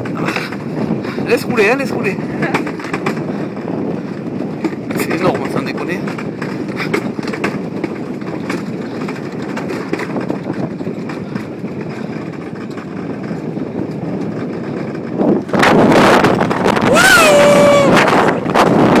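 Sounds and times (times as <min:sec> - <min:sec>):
rattling clicks from track: 0:00.0 - 0:16.6
coaster wheels rumbling on rail: 0:00.0 - 0:19.0.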